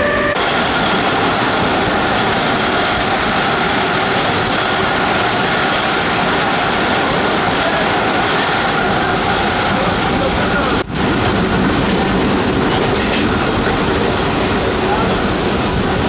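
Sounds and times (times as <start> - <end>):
train rumbling and rattling: 0.0 - 16.0.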